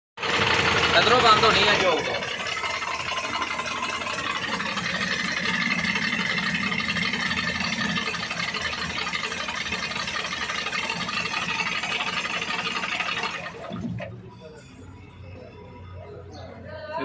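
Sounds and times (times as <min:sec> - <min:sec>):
diesel truck engine running: 0:00.2 - 0:17.0.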